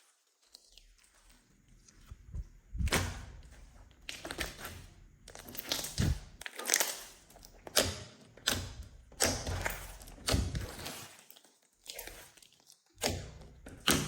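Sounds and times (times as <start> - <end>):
wet crackling slime squishes: 0.0 - 14.0.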